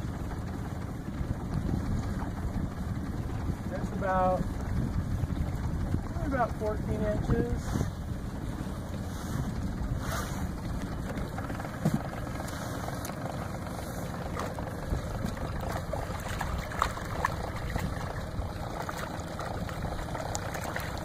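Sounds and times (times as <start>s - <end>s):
outboard motor running: 0.0s - 21.0s
wind rumble on microphone: 0.0s - 21.0s.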